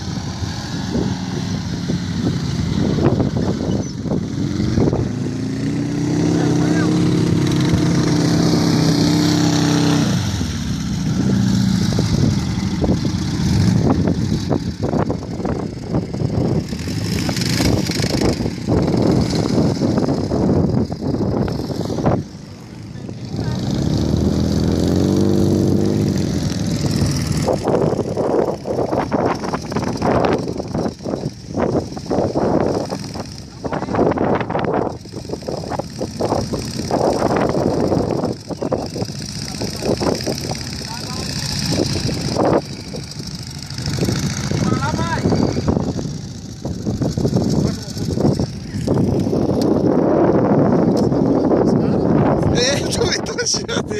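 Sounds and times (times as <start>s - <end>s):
off-road engines running rough: 0.0s - 53.9s.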